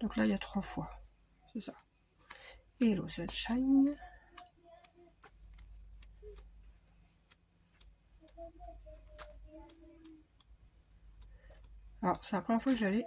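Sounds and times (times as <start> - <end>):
faint clicks and taps: 0.0 - 13.0
low steady hum: 0.0 - 13.0.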